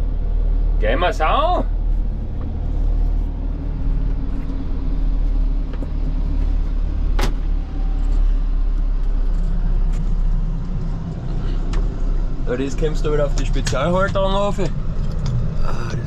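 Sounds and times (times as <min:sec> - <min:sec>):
tractor diesel engine rumble: 0:00.0 - 0:16.0.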